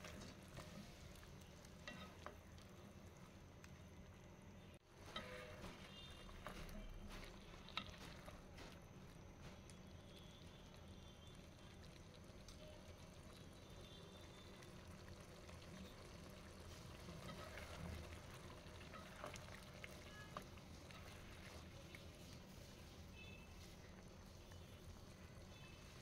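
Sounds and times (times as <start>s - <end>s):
curry squelching when stirred: 5.0s - 26.0s.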